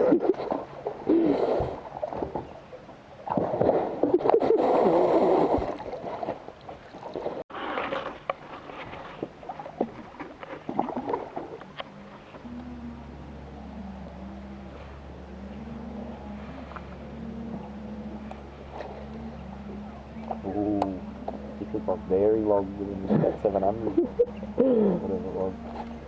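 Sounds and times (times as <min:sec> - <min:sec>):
water sloshing around boat: 0:00.0 - 0:26.0.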